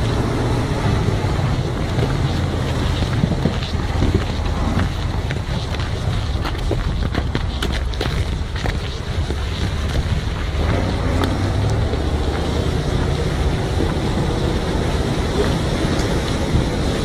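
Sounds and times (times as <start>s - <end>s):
truck diesel engine under load: 0.0s - 17.0s
water and ice splashing: 0.0s - 17.0s
wind on microphone: 0.0s - 17.0s.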